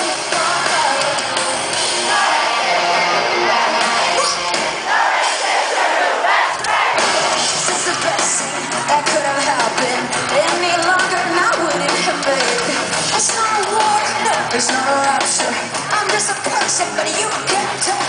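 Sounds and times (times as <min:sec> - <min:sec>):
rock band playing live: 0:00.0 - 0:05.9, 0:06.5 - 0:18.0
crowd singing and yelling: 0:00.0 - 0:18.0.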